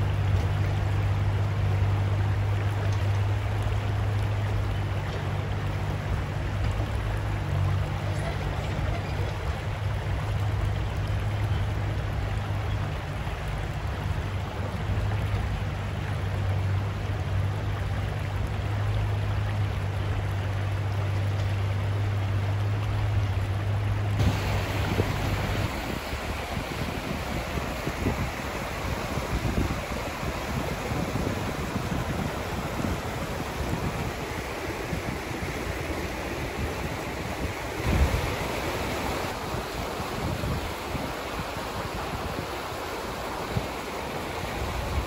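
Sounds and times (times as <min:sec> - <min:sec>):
river rushing over stones: 0:00.0 - 0:45.0.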